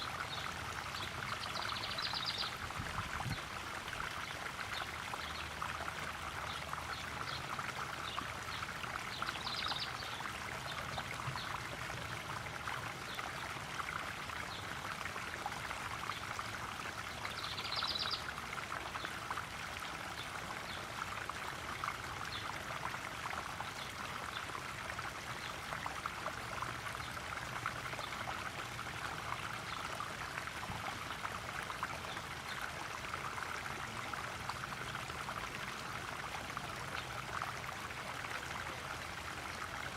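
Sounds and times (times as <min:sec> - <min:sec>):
small waterfall trickling: 0:00.0 - 0:39.9.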